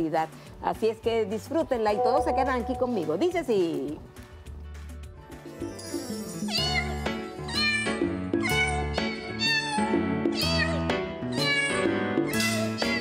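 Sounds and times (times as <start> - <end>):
bouncy children's song backing track: 0.9 - 13.0.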